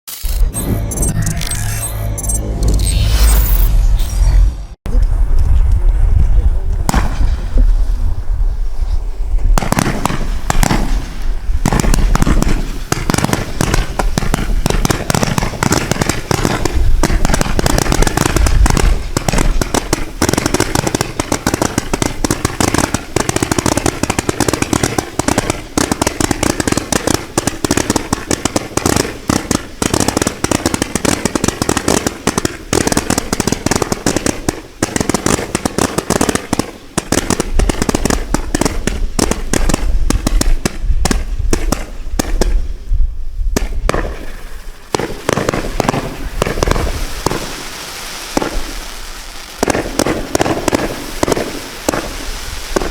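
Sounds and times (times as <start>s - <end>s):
fireworks barrage: 0.1s - 52.9s.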